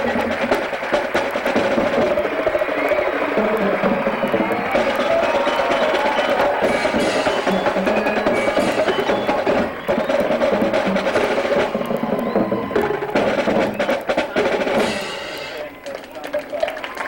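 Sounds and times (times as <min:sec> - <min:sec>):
sustained horns: 0:00.0 - 0:16.0
percussion hits: 0:00.0 - 0:16.6
marching band playing: 0:00.0 - 0:17.0.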